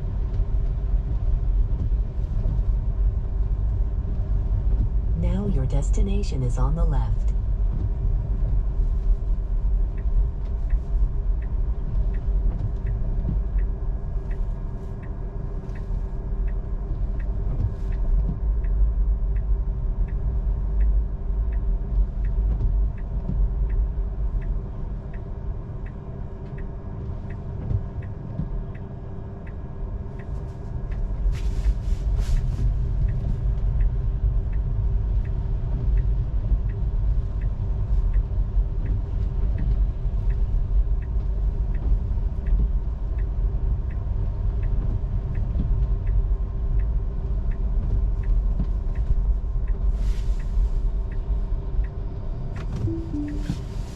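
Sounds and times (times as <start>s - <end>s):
turn signal ticking: 4.7s - 53.9s
road and tyre rumble: 6.9s - 53.9s.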